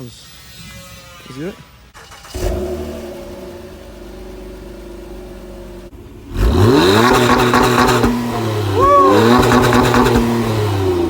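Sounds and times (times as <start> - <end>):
car engine idling and revving: 1.9 - 11.0.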